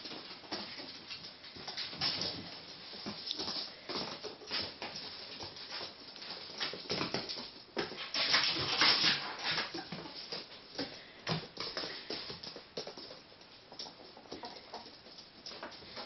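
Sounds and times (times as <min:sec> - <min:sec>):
ferrets scrabbling on wooden floor: 0:00.0 - 0:16.0.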